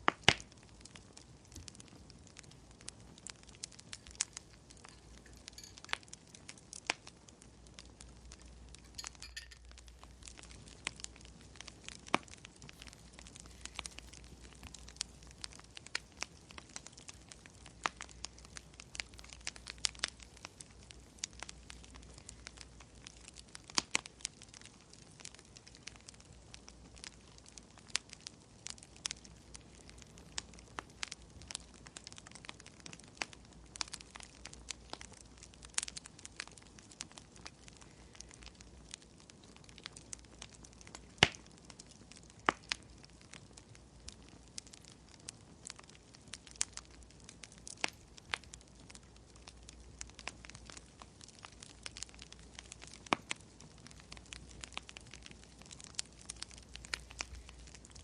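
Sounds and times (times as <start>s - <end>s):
sharp pops of fire: 0.0s - 58.0s
wood fire crackling: 0.0s - 58.0s.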